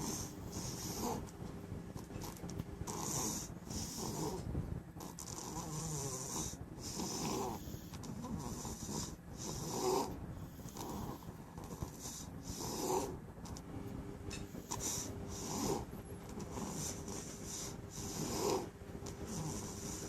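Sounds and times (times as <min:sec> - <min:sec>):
puppy snoring: 0:00.0 - 0:01.3, 0:01.9 - 0:13.6, 0:14.3 - 0:20.0.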